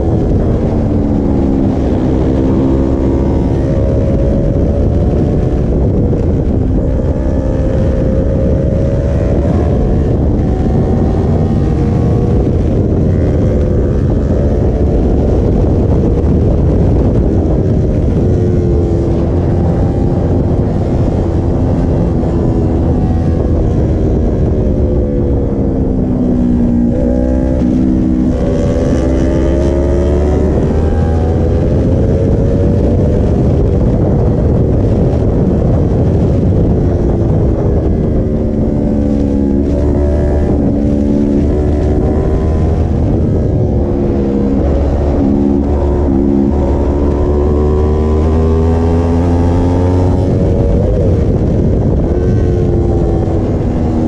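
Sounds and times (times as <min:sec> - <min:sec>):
motorcycle engine revving: 0:00.0 - 0:54.0
wind rumble on microphone: 0:00.0 - 0:54.0.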